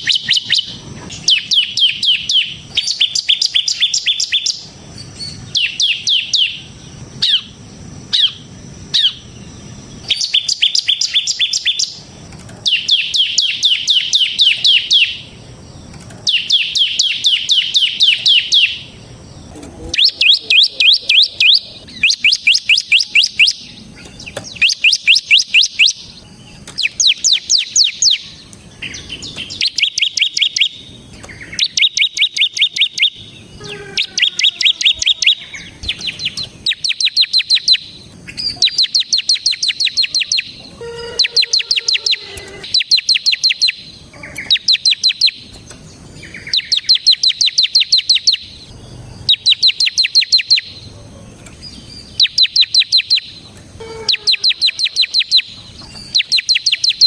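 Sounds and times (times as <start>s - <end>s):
bird singing fast sharp chirps: 0.0s - 15.5s, 16.2s - 45.5s, 46.2s - 50.8s, 51.6s - 57.0s.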